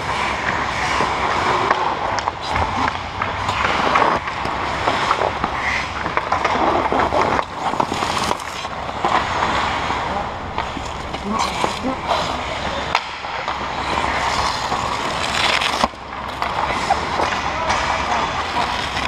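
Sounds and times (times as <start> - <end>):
hockey sticks and puck clicking: 0.0 - 19.0
skate blades scraping ice: 0.0 - 19.0.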